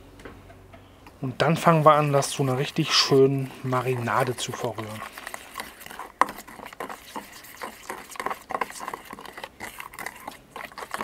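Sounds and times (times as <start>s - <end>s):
utensil stirring paste in bowl: 1.4s - 11.0s.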